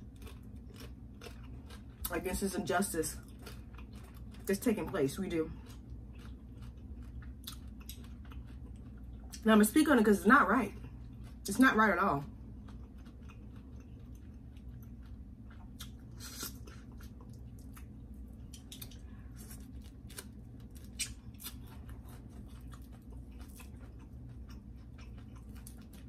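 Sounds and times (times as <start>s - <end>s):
chewing: 0.0s - 2.4s, 3.1s - 4.7s, 5.5s - 9.4s, 12.6s - 26.0s
steady low hum: 0.0s - 26.0s.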